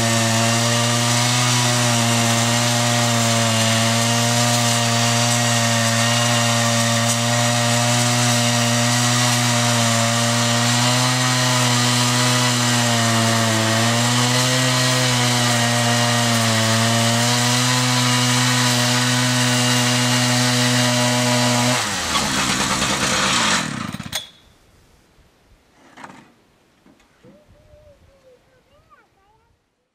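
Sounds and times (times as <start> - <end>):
sawmill engine running: 0.0 - 24.1.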